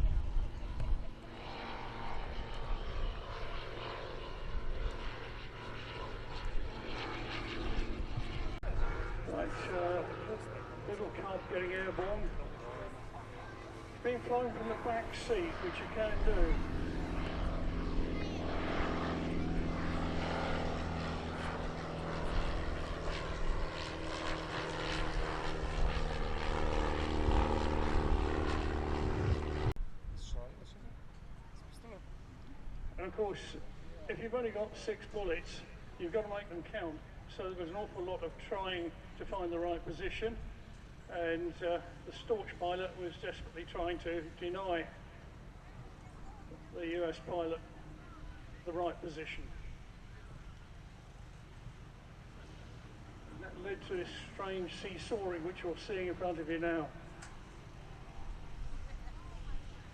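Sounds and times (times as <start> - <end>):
propeller aircraft engine running: 0.0 - 30.3, 30.9 - 59.9.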